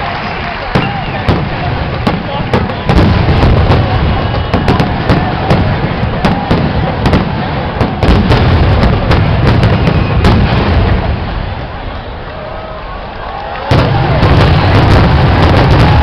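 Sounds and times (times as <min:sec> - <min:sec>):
fireworks bursting and cracking: 0:00.0 - 0:12.4, 0:13.5 - 0:16.0.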